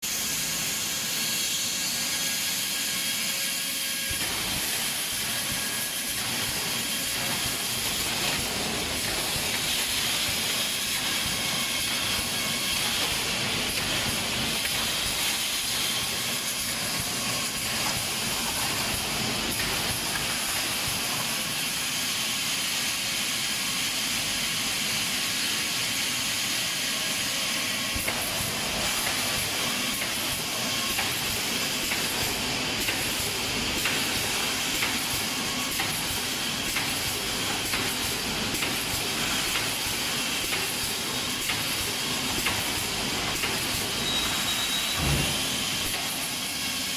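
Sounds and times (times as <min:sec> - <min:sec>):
welding machine hissing: 0:00.0 - 0:46.9.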